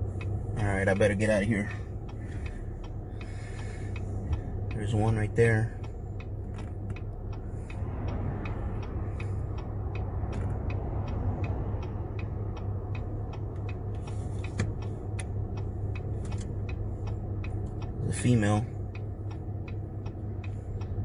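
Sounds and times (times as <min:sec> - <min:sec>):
car engine hum: 0:00.0 - 0:21.0
car indicator clicking: 0:00.0 - 0:21.0.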